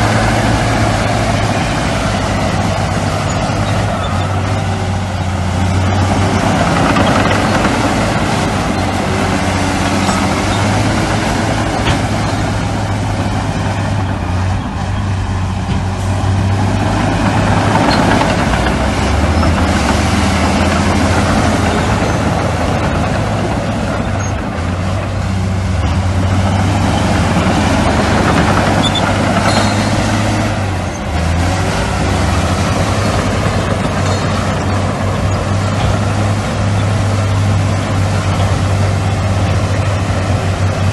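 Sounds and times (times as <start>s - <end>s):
heavy machinery diesel engines droning: 0.0s - 40.9s.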